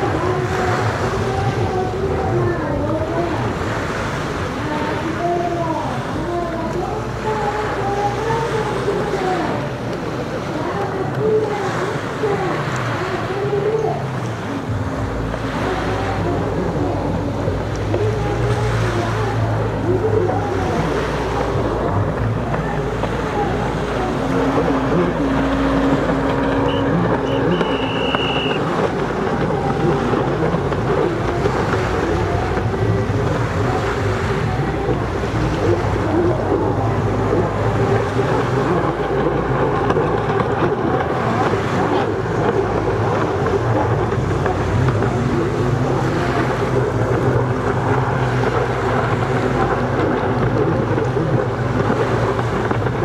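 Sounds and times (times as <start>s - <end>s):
jet ski engines droning: 0.0s - 53.0s
waves: 0.0s - 53.0s.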